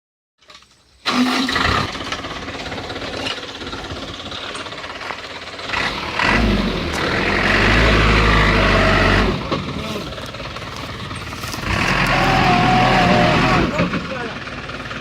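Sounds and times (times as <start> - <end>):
truck engine running: 1.1 - 15.0.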